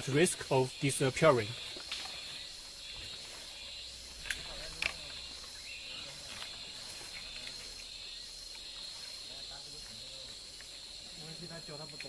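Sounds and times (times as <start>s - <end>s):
faint outdoor background noise: 0.0s - 12.0s
high-pitched insect chorus: 0.0s - 12.0s.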